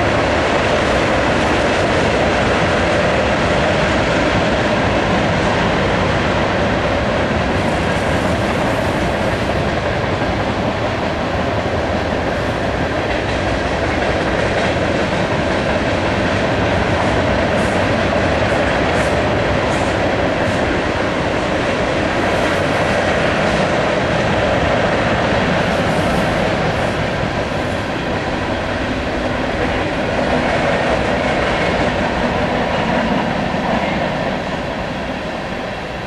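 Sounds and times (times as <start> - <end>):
freight train wheels rumbling on rails: 0.0 - 36.0.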